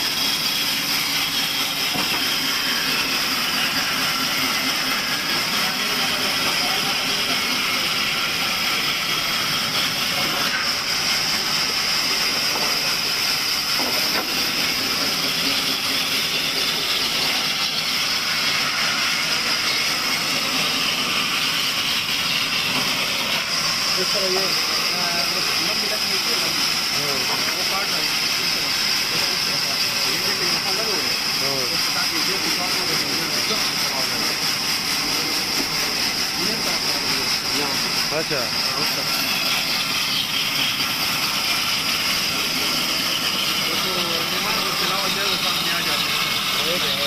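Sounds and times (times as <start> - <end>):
sawmill machine running: 0.0 - 47.0.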